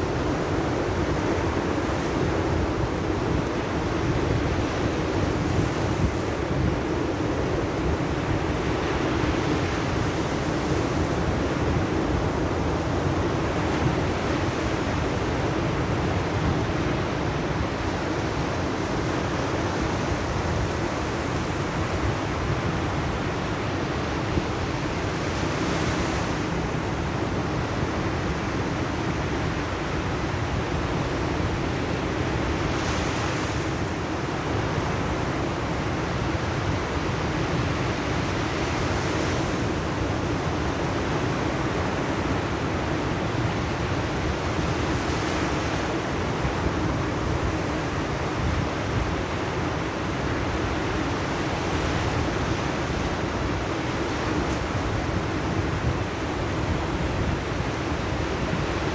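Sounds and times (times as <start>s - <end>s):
sea surf washing on shore: 0.0s - 58.9s
wind on microphone: 0.0s - 58.9s.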